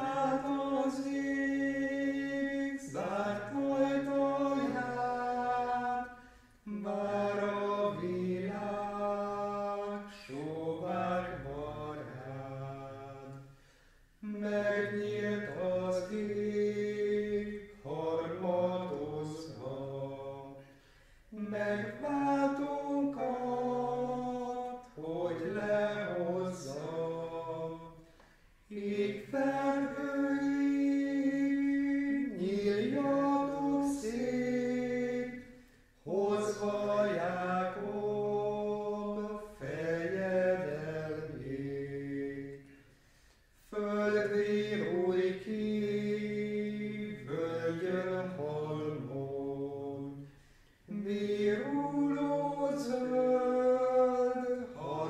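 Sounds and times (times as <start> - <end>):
men singing a hymn unaccompanied: 0.0 - 42.9, 43.6 - 55.0.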